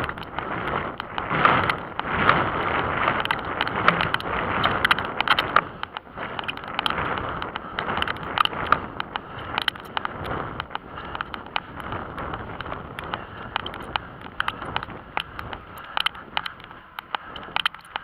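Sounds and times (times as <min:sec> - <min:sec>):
camera ticks and knocks: 0:00.0 - 0:18.0
wind rushing over microphone: 0:00.0 - 0:18.0.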